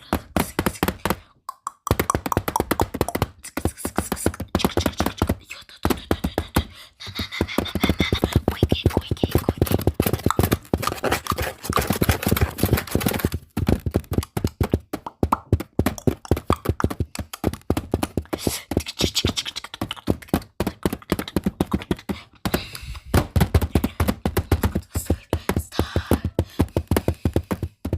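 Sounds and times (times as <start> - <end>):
fast tapping on camera body: 0.0 - 27.9.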